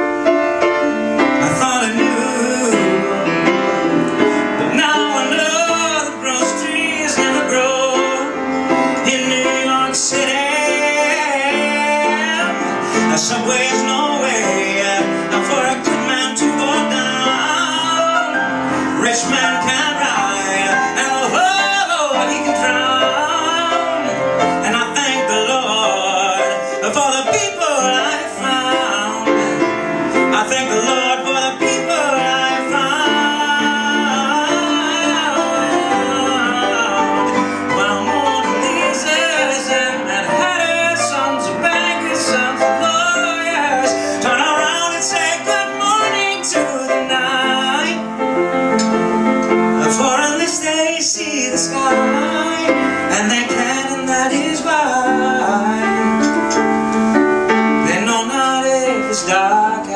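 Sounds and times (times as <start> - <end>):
man singing a ballad: 0.0 - 59.9
piano accompaniment: 0.0 - 59.9.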